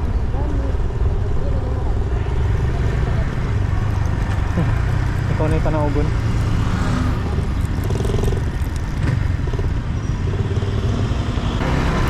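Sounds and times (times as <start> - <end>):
motorcycle engine running: 0.0 - 12.0
wind and road rush: 0.0 - 12.0.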